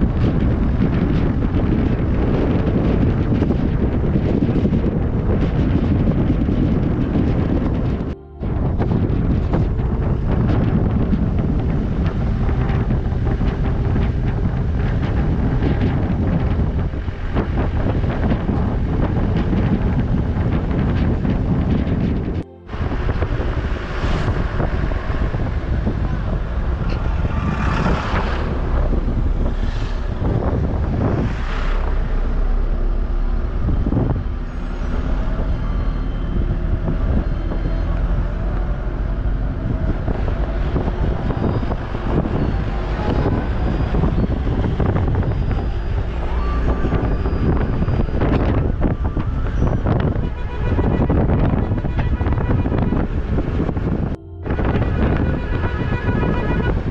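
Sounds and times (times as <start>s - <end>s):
vehicle engine and road rumble: 0.0s - 56.9s
wind buffeting microphone: 0.0s - 56.9s.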